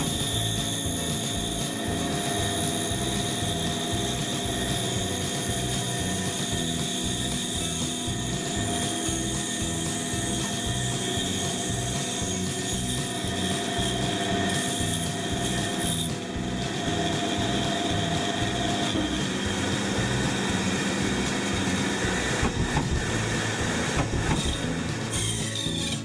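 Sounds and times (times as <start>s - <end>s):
band saw cutting wood: 0.0s - 26.0s.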